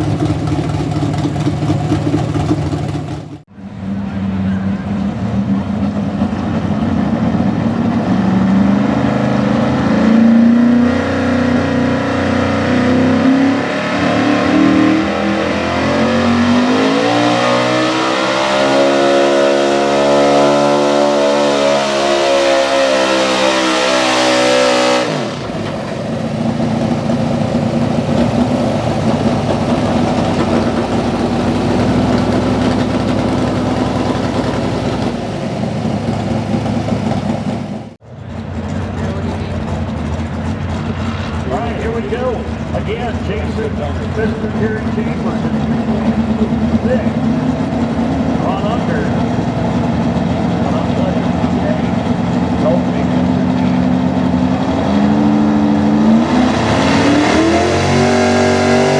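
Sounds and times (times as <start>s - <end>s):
engine running at lower revs: 0.0s - 58.9s
truck engine running hard: 0.0s - 58.9s.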